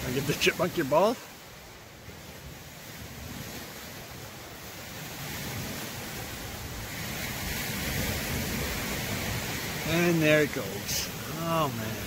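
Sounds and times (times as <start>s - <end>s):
rushing wind: 0.0s - 12.0s.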